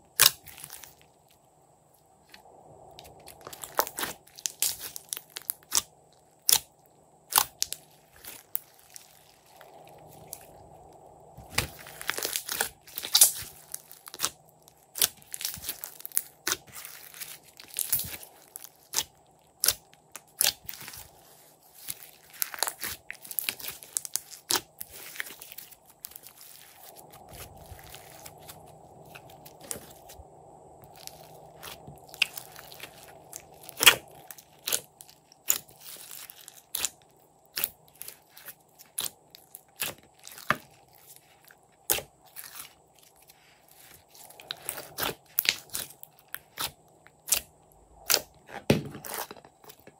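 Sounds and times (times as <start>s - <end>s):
faint steady hum: 0.0s - 49.9s
slime crackling and popping: 3.2s - 6.7s, 7.3s - 10.6s, 11.5s - 30.0s, 30.9s - 48.4s.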